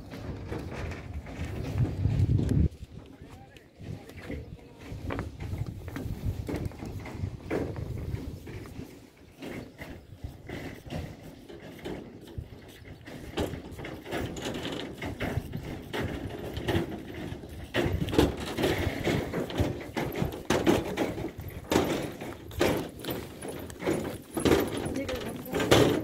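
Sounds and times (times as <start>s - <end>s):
footsteps: 0.0s - 26.0s.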